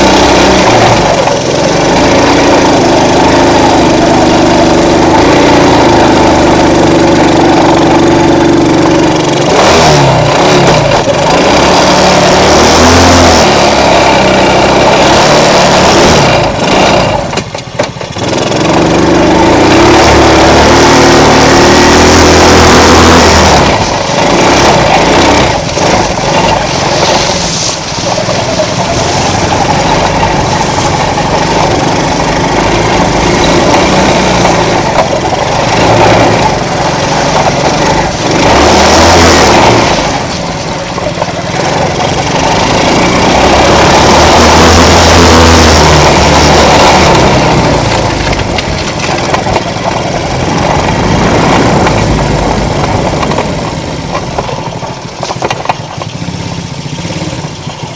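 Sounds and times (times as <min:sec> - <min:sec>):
small atv engine revving: 0:00.0 - 0:57.9.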